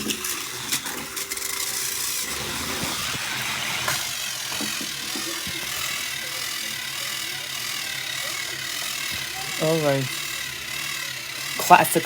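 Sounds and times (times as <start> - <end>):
toy train motors whirring: 0.0 - 12.0
wheels grinding on track: 0.0 - 12.0.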